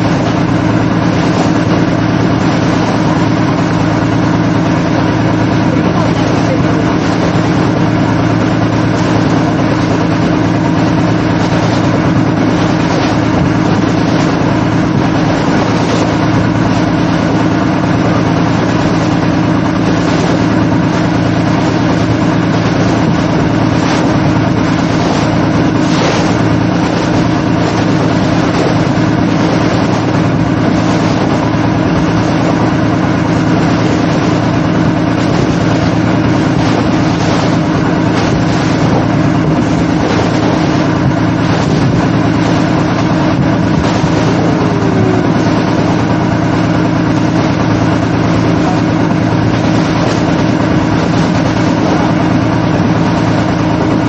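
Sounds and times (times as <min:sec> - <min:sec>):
boat engine humming: 0:00.0 - 0:54.0
water splashing along hull: 0:00.0 - 0:54.0.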